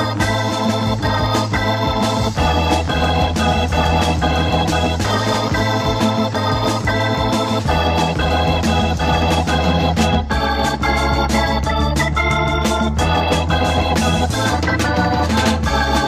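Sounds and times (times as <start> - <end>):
bass line: 0.0 - 16.0
organ holding chords: 0.0 - 16.0
percussion hits: 0.0 - 16.0.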